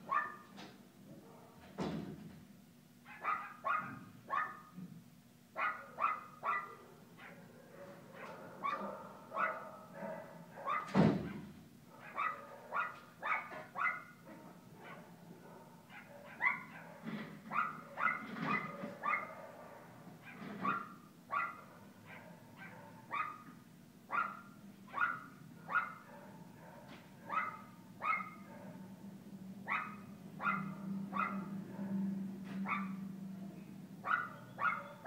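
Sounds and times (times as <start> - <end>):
small dogs barking: 0.0 - 0.5, 3.0 - 4.8, 5.5 - 33.2, 33.9 - 35.0.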